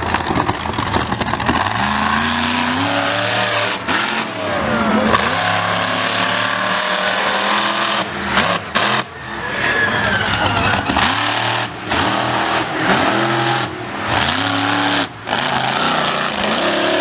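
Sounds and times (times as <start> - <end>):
racing engine accelerating: 0.0 - 17.0.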